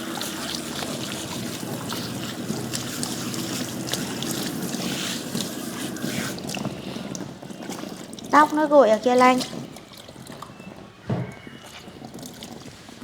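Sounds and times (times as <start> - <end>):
water running: 0.0 - 13.0
water splashes and drips: 0.0 - 13.0.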